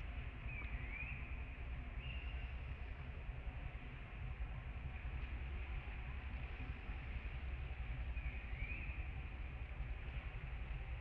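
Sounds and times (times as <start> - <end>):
low fluctuating rumble: 0.0 - 11.0.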